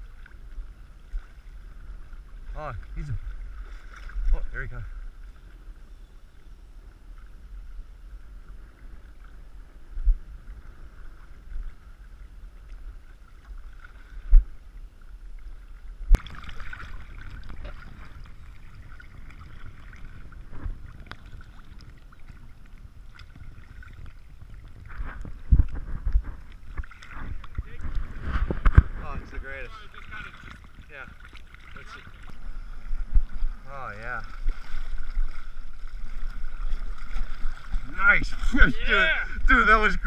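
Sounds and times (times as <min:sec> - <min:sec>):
shallow water lapping and splashing: 0:00.0 - 0:40.0
wind buffeting the microphone: 0:01.6 - 0:13.1, 0:15.4 - 0:40.0.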